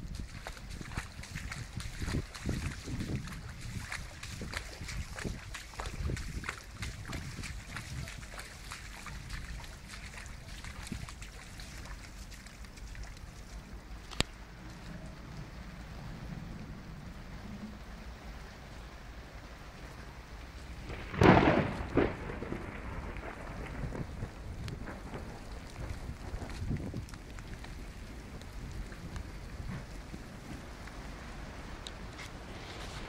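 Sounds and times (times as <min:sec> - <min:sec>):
rain and water in a tent: 0:00.0 - 0:33.0.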